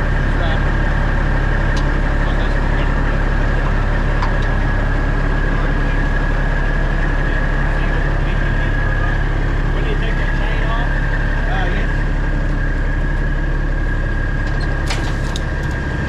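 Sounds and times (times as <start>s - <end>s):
diesel truck engine idling: 0.0s - 16.0s
high engine whine: 0.0s - 16.0s.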